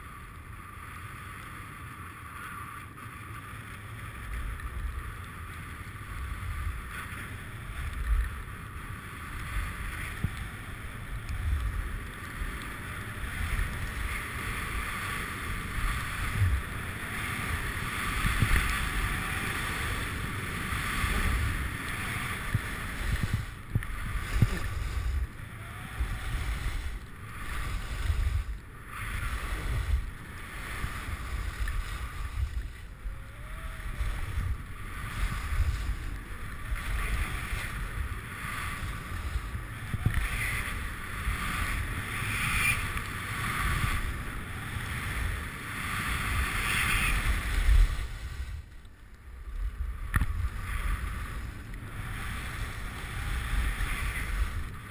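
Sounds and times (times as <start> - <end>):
skis carving on snow: 0.0 - 54.9
wind buffeting microphone: 4.5 - 54.9.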